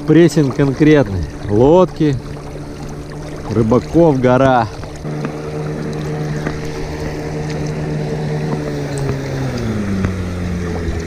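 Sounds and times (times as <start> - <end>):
outboard motor running: 0.0 - 11.0
river water rushing: 0.0 - 11.0.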